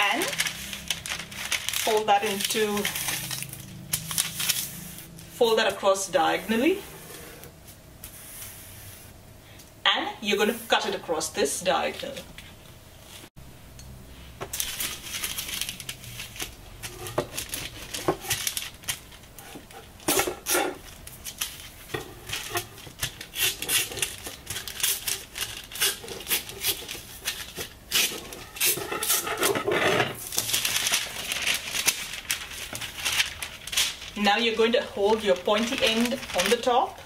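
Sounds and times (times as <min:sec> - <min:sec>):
paper crinkling: 0:00.0 - 0:07.5, 0:14.5 - 0:37.0
knife slitting baking paper: 0:00.0 - 0:09.1, 0:14.5 - 0:37.0.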